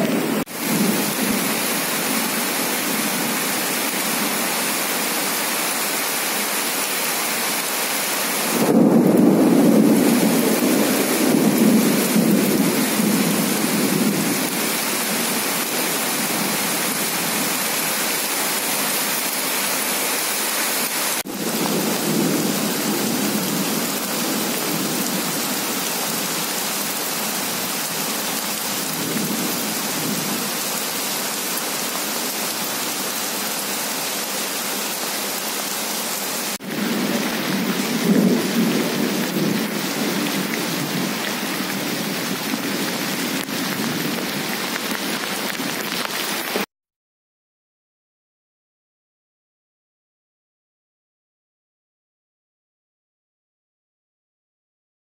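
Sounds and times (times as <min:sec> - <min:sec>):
heavy rain pouring: 0:00.0 - 0:46.7.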